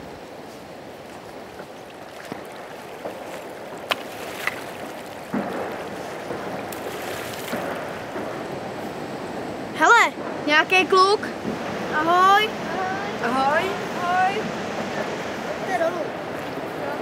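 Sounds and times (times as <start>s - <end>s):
river water running: 0.0s - 17.0s
sudden water rush: 0.0s - 17.0s.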